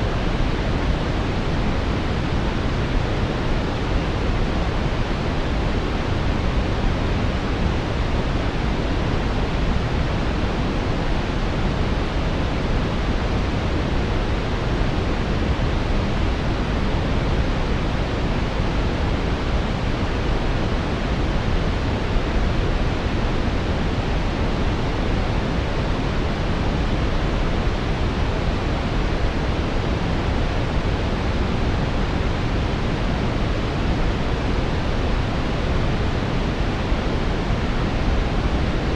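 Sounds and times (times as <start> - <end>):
brown noise hiss: 0.0 - 38.9.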